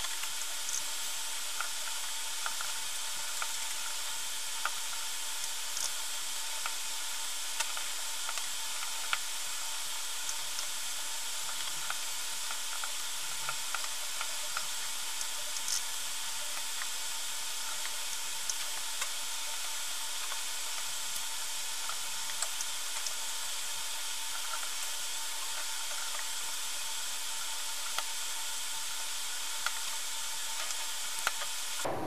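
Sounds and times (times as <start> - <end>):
steady hiss with faint tones: 0.0 - 32.0.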